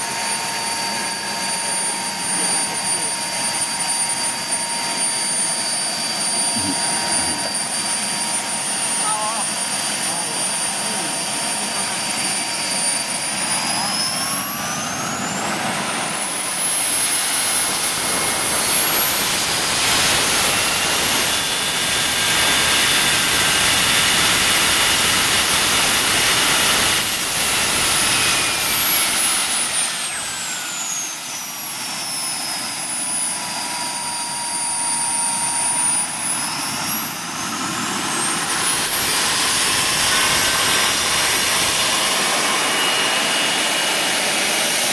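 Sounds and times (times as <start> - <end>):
jet turbine whining: 0.0 - 44.9.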